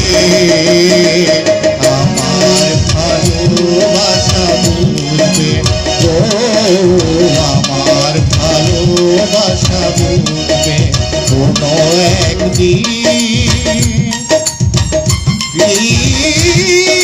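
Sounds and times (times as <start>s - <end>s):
hand drum rhythm: 0.0s - 17.0s
keyboard melody: 0.0s - 17.0s.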